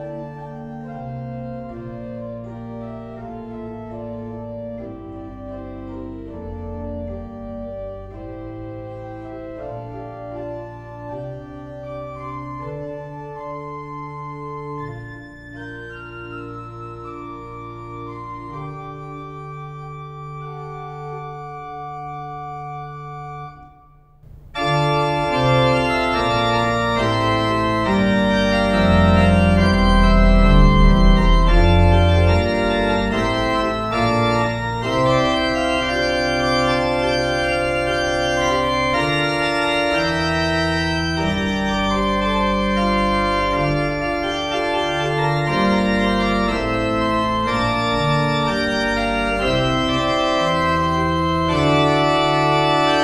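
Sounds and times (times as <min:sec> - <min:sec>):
church organ playing chords: 0:00.0 - 0:53.0.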